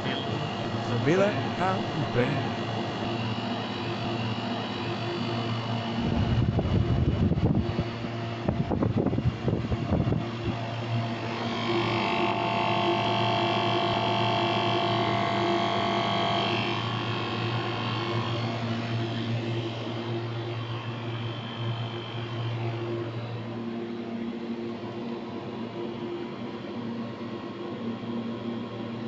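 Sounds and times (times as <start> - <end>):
high whine: 0.0 - 24.8
machinery humming: 0.0 - 28.9.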